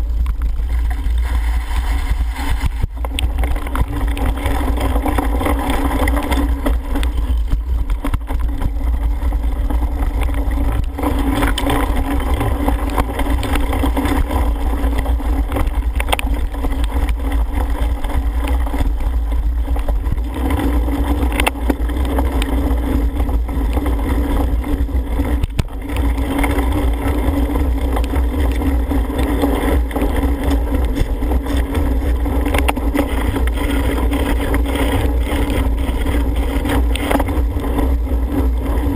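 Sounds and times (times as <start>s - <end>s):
bike knocking over rough ground: 0.0s - 38.9s
wind buffeting microphone: 0.0s - 38.9s.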